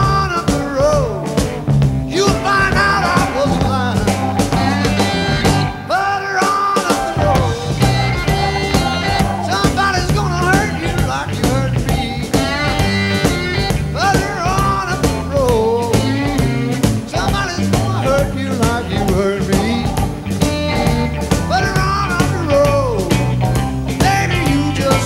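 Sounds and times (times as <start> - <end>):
rock music: 0.0 - 25.0.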